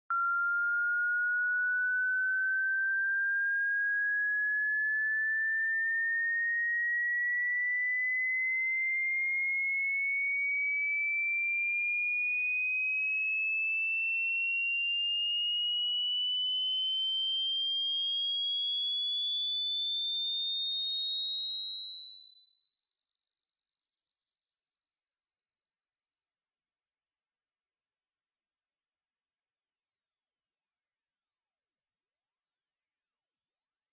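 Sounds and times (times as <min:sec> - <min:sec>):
sine tone rising in pitch: 0:00.1 - 0:12.4, 0:13.2 - 0:25.1, 0:26.9 - 0:33.9.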